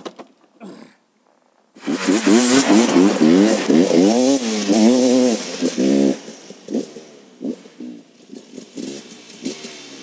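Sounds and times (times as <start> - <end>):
motorcycle engine revving and idling: 1.8 - 10.0.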